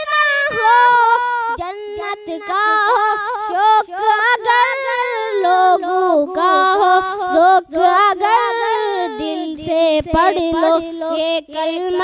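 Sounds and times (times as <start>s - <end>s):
boy singing into microphone: 0.0s - 12.0s.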